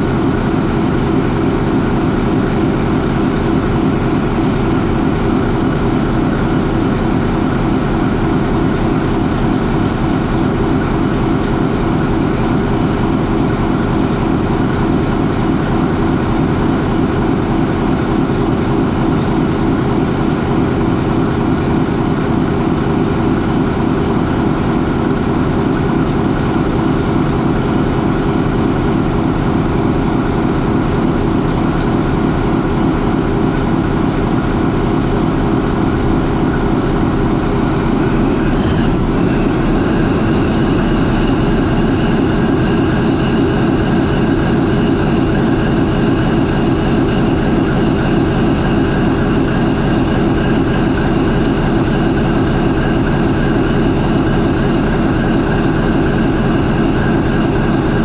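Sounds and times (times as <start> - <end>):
marine diesel engine idling: 0.0 - 58.0.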